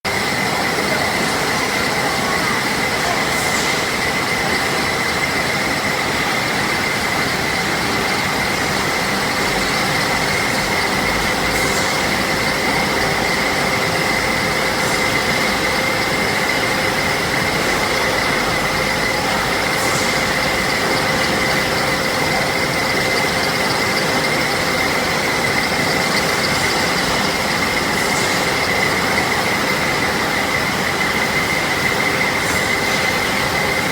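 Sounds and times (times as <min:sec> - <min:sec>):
wire drawing machine whining: 0:00.1 - 0:33.9.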